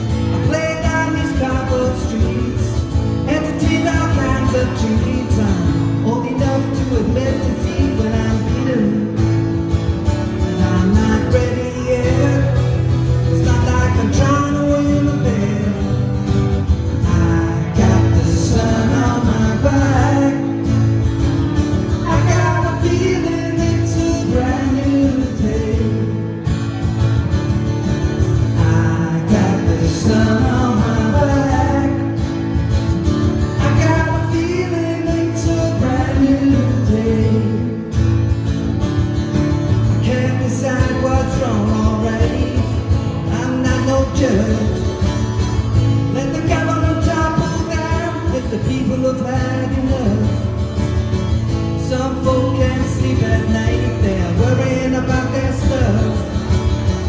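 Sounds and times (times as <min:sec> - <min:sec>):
live band with guitar: 0:00.0 - 0:57.0.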